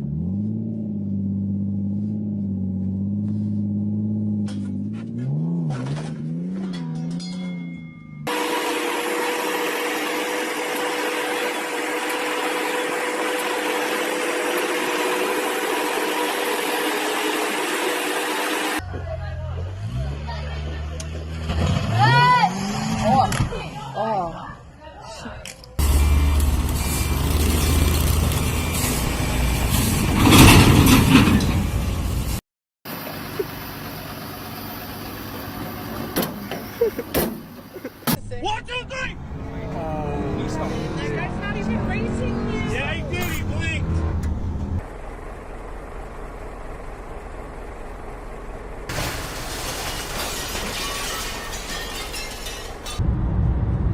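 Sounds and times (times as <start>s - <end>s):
vehicle engine and road noise: 0.0s - 53.9s.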